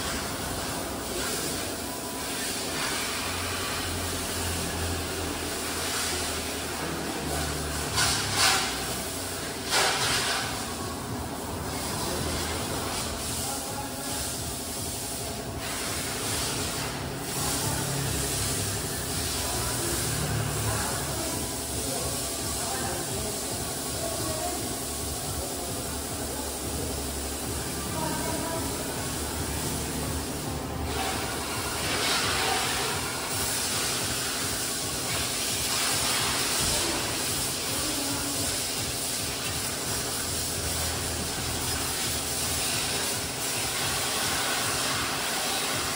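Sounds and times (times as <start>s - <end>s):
water jet hissing and splashing: 0.0s - 45.9s.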